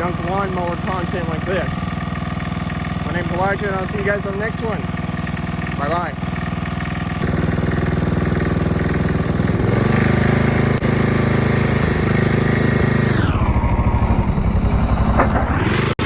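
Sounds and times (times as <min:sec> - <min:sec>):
riding mower engine running: 0:00.0 - 0:16.0.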